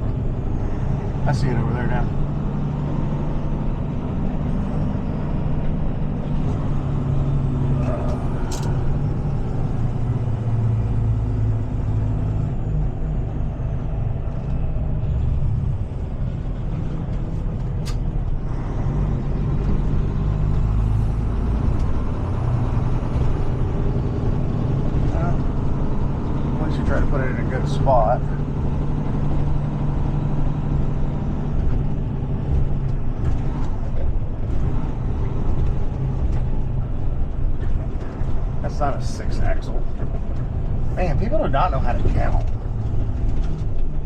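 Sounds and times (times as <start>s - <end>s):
truck engine humming: 0.0s - 44.0s.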